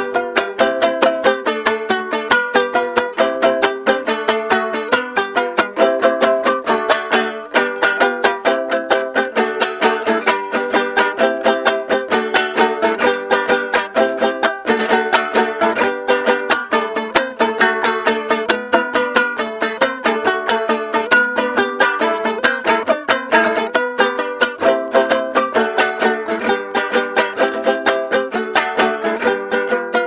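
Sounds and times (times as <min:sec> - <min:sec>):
small guitar strummed chords: 0:00.0 - 0:30.0.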